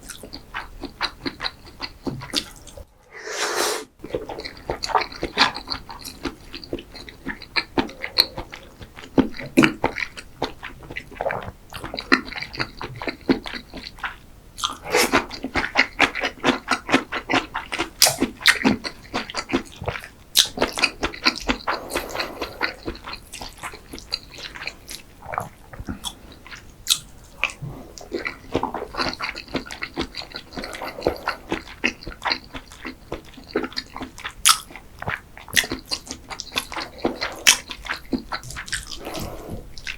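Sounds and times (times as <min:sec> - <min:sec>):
chewing with wet mouth smacks: 0:00.0 - 0:02.9, 0:04.0 - 0:39.9.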